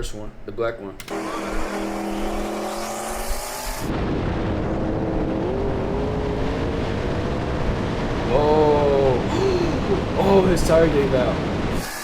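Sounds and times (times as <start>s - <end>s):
car engines accelerating: 1.1s - 11.8s
loud rushing noise: 1.6s - 12.0s.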